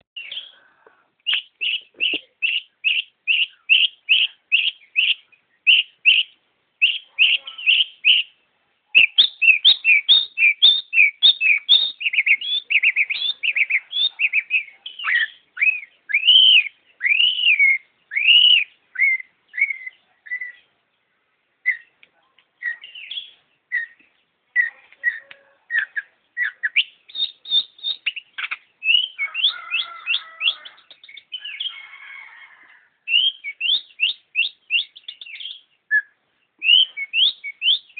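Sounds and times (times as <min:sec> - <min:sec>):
bird singing whistled notes: 0:01.2 - 0:20.7, 0:21.6 - 0:21.9, 0:22.6 - 0:24.0, 0:24.6 - 0:31.9, 0:33.1 - 0:37.9.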